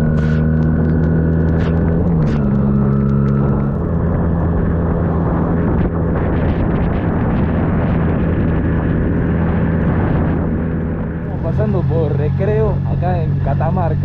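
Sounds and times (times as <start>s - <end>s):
higher engine note: 0.0s - 14.0s
motorcycle engine running: 0.0s - 14.0s
wind and road noise: 0.0s - 14.0s.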